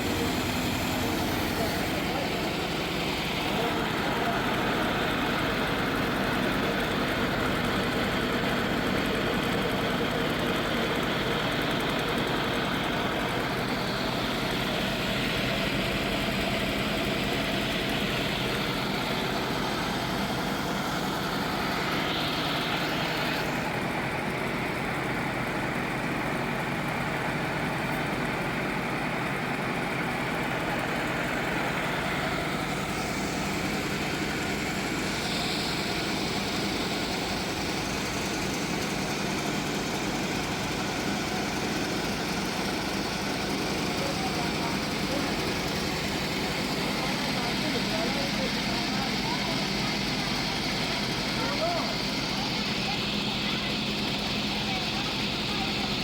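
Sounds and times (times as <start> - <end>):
wheat mill droning: 0.0 - 56.0.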